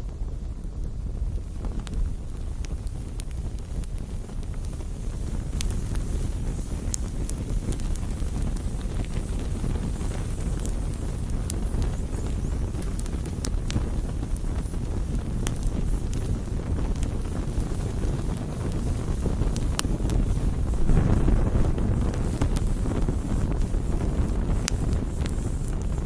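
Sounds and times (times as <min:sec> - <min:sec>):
campfire rumble: 0:00.0 - 0:26.0
wood crackling and popping: 0:00.0 - 0:26.0.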